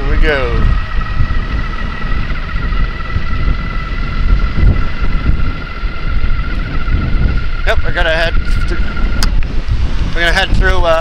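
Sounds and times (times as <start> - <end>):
steady high whine: 0.0 - 11.0
wind buffeting microphone: 0.0 - 11.0.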